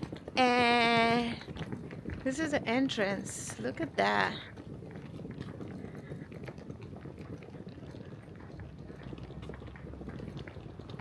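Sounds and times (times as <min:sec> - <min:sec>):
fluttering microphone rumble: 0:00.0 - 0:11.0.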